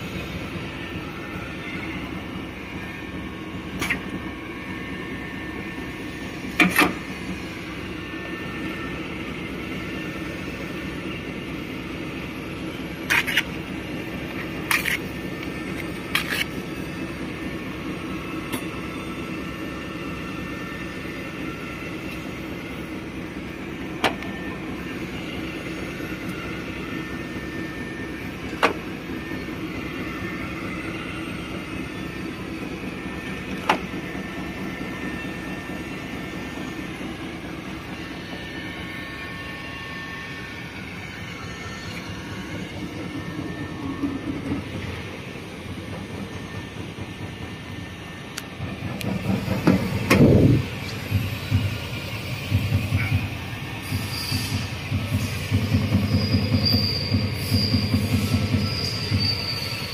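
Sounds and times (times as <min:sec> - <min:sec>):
machine mechanical hum: 0:00.0 - 0:59.9.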